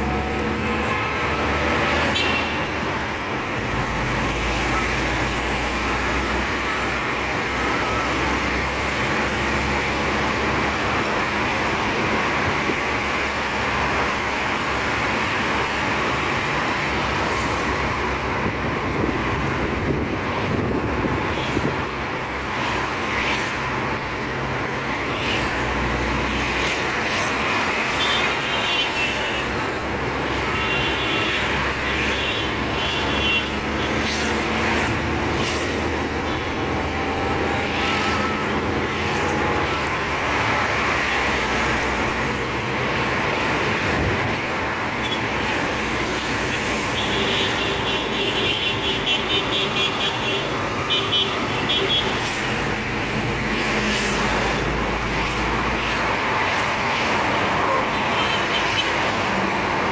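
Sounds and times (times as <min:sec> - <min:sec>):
car engine and tyre noise: 0:00.0 - 0:59.9.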